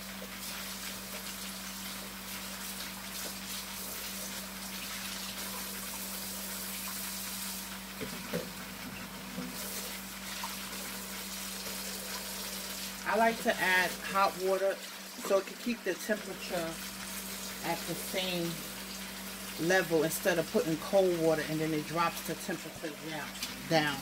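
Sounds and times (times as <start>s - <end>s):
water pouring into a pot: 0.0s - 24.0s.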